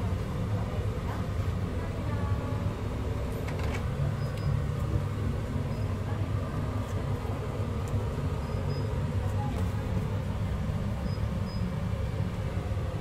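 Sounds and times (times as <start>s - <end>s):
low mechanical hum and rumble: 0.0s - 13.0s.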